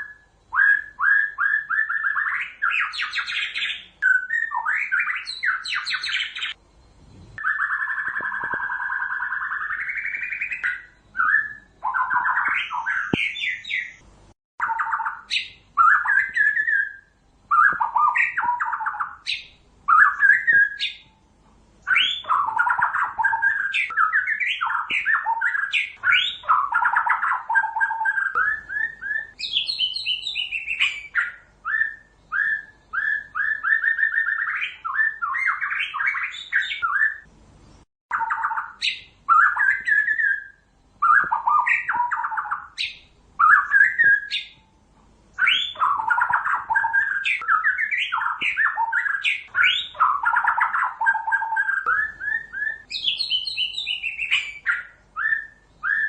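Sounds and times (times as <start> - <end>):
bird singing whistled phrases: 0.0 - 6.6, 7.4 - 14.0, 14.6 - 21.2, 21.8 - 37.3, 38.1 - 44.7, 45.4 - 56.0.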